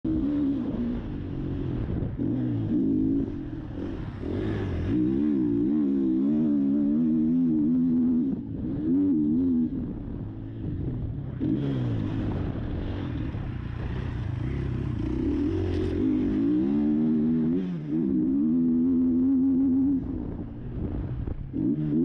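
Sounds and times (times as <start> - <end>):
motocross bike engine revving: 0.1 - 22.0.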